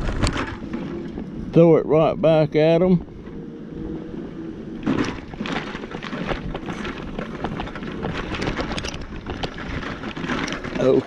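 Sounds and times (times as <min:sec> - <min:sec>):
mobility scooter tyres crackling: 0:00.0 - 0:11.0
wind rumbling on microphone: 0:00.0 - 0:11.0.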